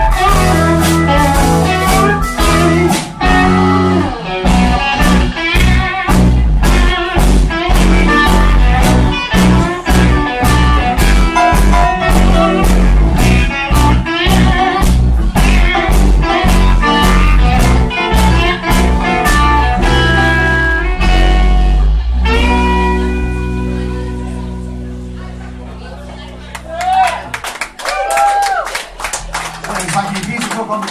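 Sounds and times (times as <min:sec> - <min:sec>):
live blues band playing: 0:00.0 - 0:30.9.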